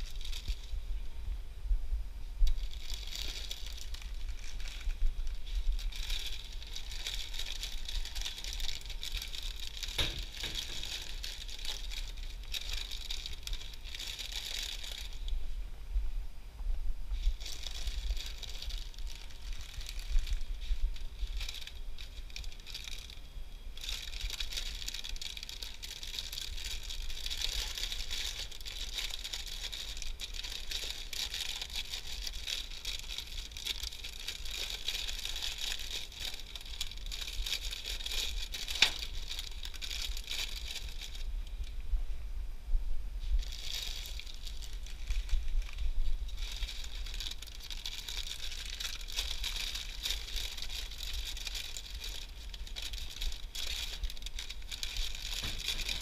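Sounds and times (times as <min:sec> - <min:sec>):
plastic snack bags crinkling: 0:00.0 - 0:00.8, 0:02.4 - 0:15.4, 0:17.2 - 0:41.6, 0:43.3 - 0:56.0
steady low hum: 0:00.0 - 0:56.0.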